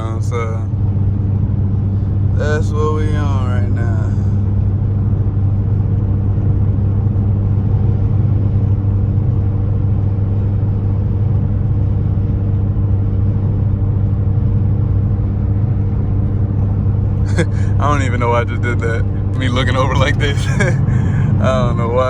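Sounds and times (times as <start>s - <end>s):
car engine and exhaust droning: 0.0s - 22.0s.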